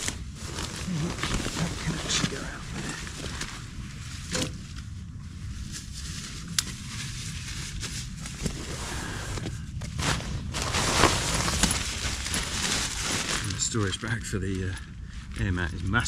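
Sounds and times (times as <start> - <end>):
low rumble: 0.0 - 16.0
nylon camping gear rustling: 0.0 - 16.0.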